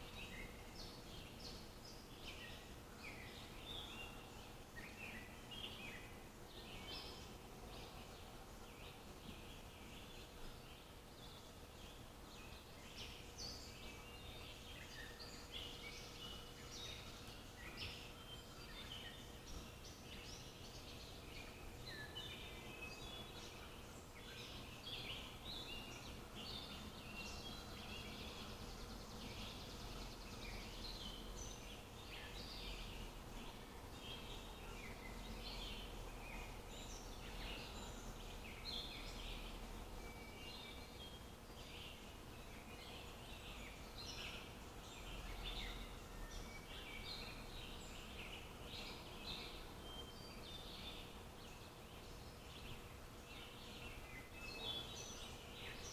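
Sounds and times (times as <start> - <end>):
faint steady hum: 0.0 - 55.9
songbirds chirping: 0.0 - 55.9.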